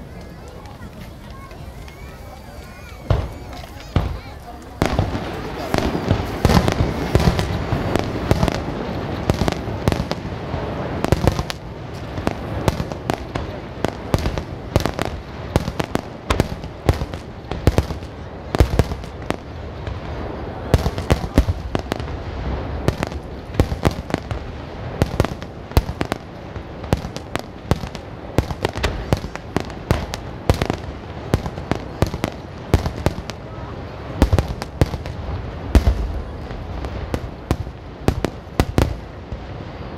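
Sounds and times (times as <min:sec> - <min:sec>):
continuous rumble: 0:00.0 - 0:39.9
fireworks bursting: 0:00.0 - 0:39.9.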